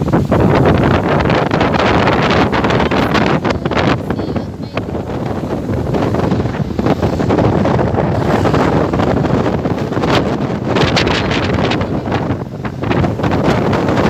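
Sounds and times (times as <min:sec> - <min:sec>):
vehicle road noise: 0:00.0 - 0:14.0
wind buffeting microphone: 0:00.0 - 0:14.0.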